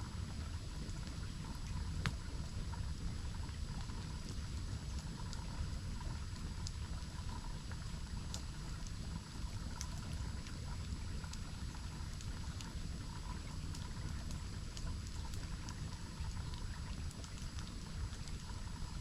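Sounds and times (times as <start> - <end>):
campfire crackles: 0.2 - 19.0.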